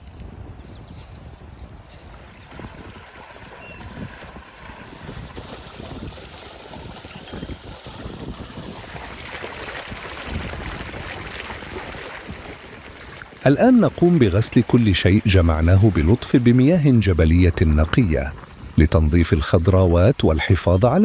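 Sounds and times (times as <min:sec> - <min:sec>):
wind gusting on microphone: 0:00.0 - 0:21.0
stream water running: 0:01.9 - 0:21.0.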